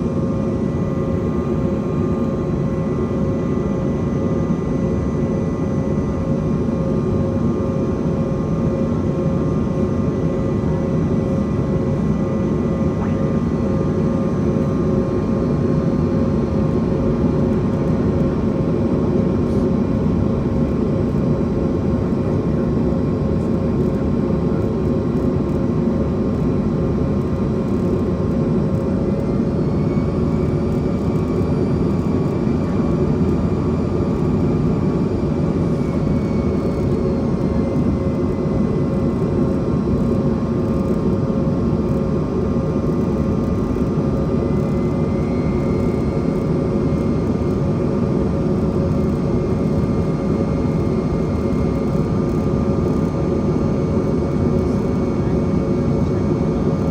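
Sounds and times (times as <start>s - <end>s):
jet engine roar in cabin: 0.0s - 56.9s.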